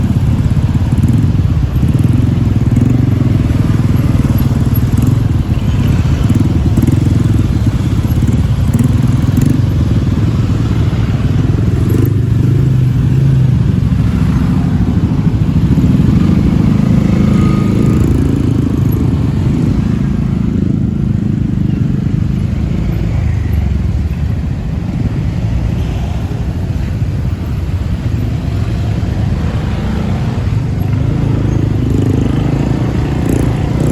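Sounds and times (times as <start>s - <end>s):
motorbikes and cars passing: 0.0s - 33.9s.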